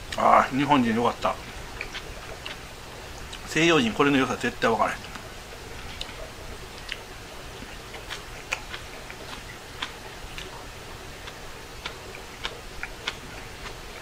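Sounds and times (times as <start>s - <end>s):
person chewing rice: 1.2s - 3.5s, 5.0s - 14.0s.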